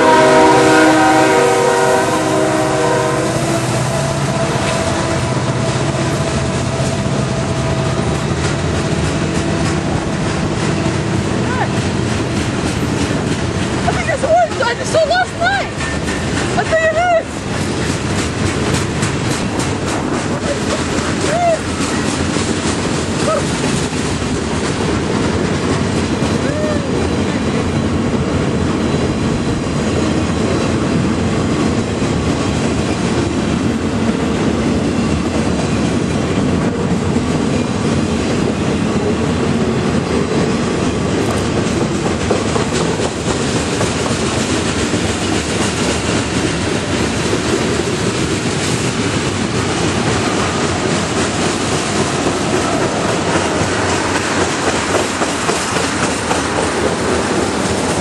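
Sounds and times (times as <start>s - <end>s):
train wheels rumbling on rails: 0.0s - 58.0s
wheels clickety-clack: 4.3s - 58.0s.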